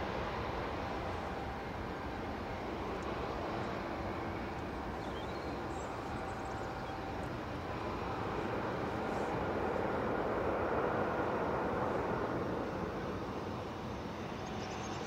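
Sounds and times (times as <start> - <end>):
jet engines roaring on take-off: 0.0 - 15.0.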